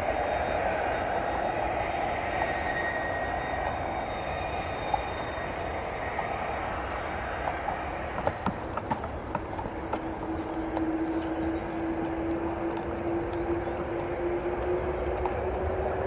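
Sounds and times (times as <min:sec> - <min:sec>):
faint high whine: 0:00.0 - 0:16.0
jet airliner rushing: 0:00.0 - 0:16.0.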